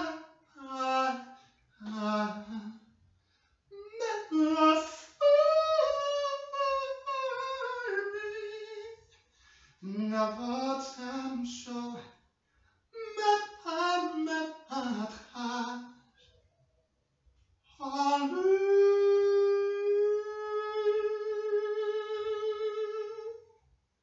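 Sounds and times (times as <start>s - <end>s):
man singing unaccompanied: 0.0s - 2.9s, 3.7s - 9.1s, 9.8s - 12.1s, 13.0s - 16.0s, 17.7s - 23.4s.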